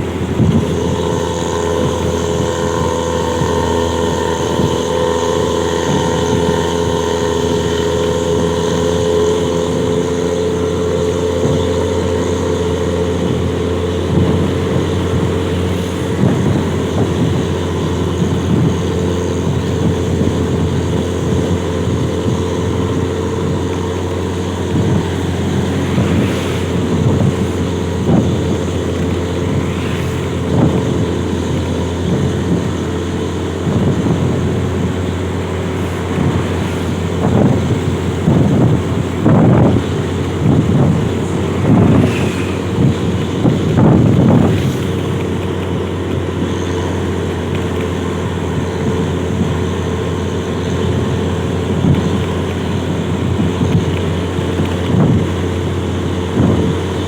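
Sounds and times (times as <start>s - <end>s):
bus engine droning: 0.0s - 57.0s
wind buffeting microphone: 0.0s - 57.0s.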